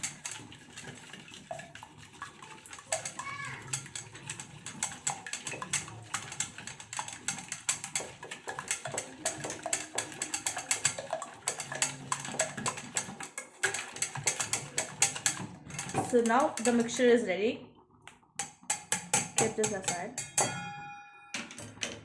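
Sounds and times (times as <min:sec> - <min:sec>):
whisk clicking against bowl: 0:00.0 - 0:17.2, 0:18.1 - 0:20.5.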